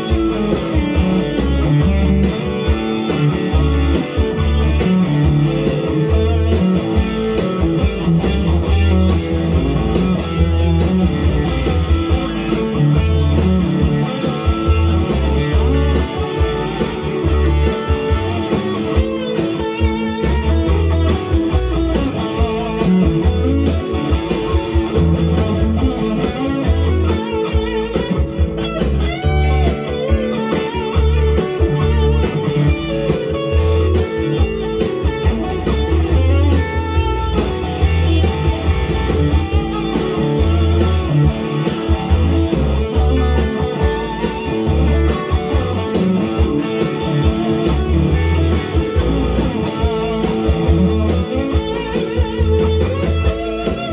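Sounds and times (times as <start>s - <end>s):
electric guitar playing: 0.0s - 53.9s.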